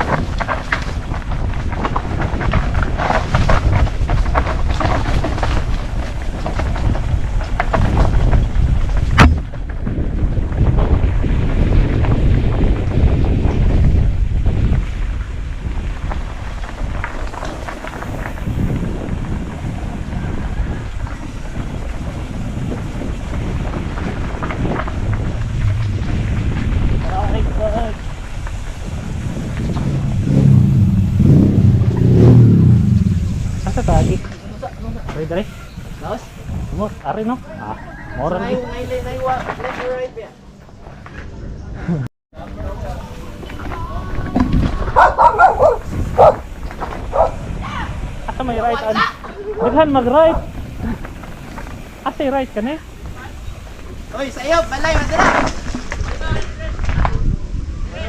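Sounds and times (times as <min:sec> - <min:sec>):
wind buffeting microphone: 0:00.0 - 0:39.5, 0:40.7 - 0:58.0
bike tyres skidding on dirt: 0:00.0 - 0:41.1, 0:42.7 - 0:58.0.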